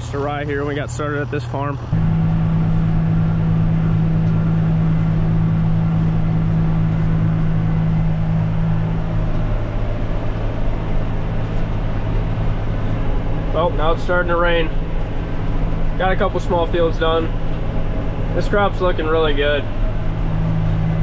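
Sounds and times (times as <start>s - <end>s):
tractor and mower mechanical hum: 0.0s - 21.0s.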